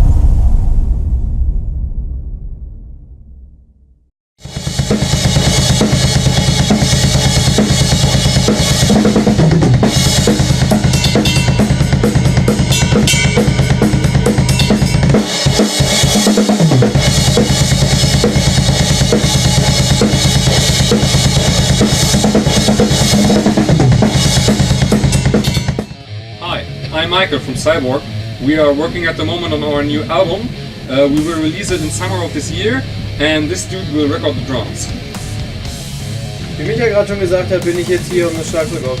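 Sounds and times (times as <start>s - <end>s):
drum kit playing fast: 4.4s - 39.0s
low guitar and bass notes: 4.7s - 39.0s.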